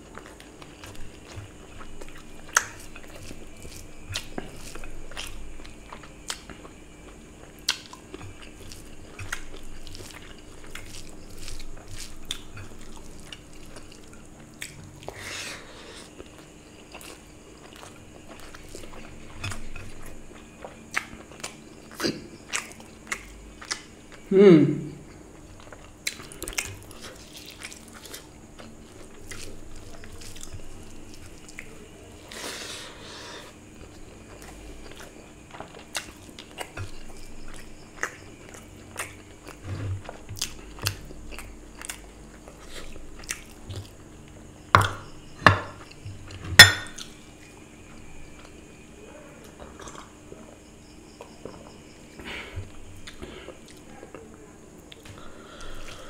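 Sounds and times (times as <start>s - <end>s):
person chewing: 0.0s - 48.6s, 49.4s - 53.9s, 54.8s - 56.0s.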